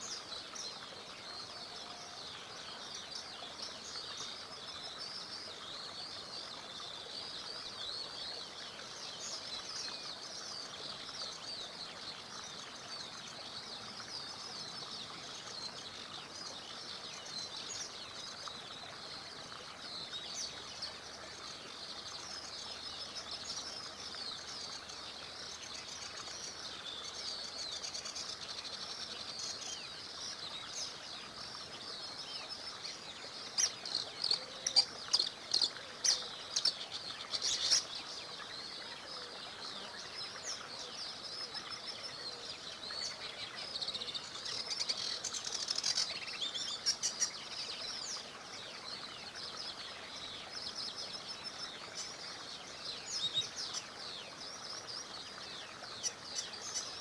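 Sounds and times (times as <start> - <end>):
faint stream murmur: 0.0 - 57.0
songbirds chirping: 0.0 - 57.0.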